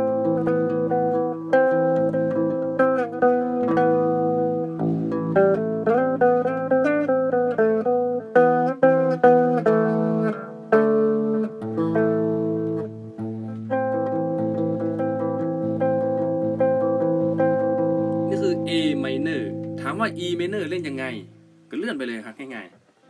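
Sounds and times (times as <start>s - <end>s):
electric bass guitar playing: 0.0s - 21.7s.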